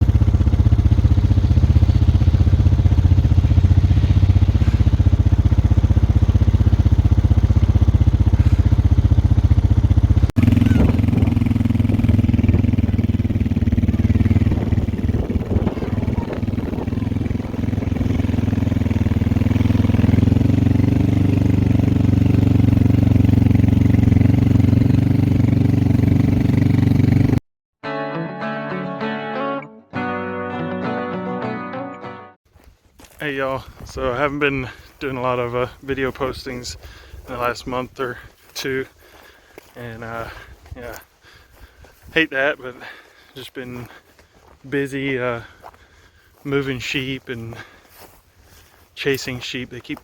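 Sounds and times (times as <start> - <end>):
vehicle engine running: 0.0 - 27.4, 33.0 - 50.0.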